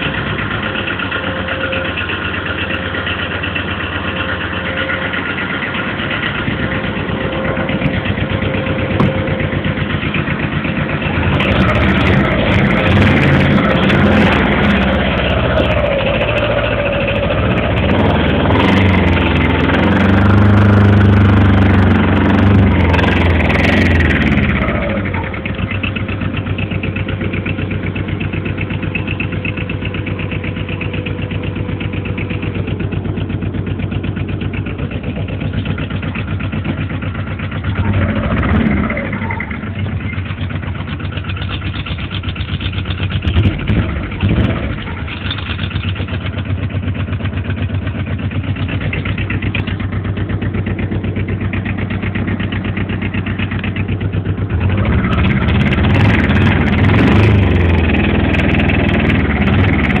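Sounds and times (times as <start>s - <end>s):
diesel engine idling: 0.0s - 60.0s.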